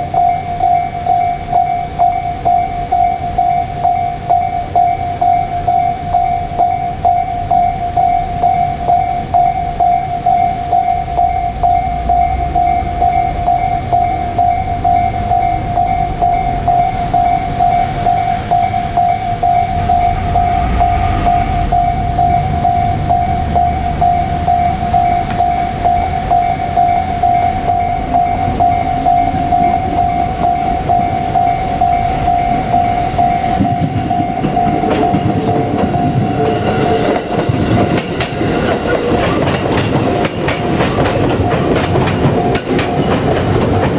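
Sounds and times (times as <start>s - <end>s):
electric trains rumbling past: 0.0s - 43.9s
level-crossing warning bell: 0.0s - 43.9s.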